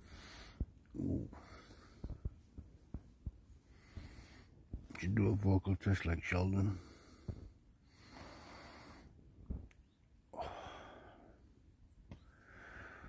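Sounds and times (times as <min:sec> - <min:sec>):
man breathing and sighing: 0:00.0 - 0:05.0, 0:06.6 - 0:11.6, 0:12.2 - 0:13.0.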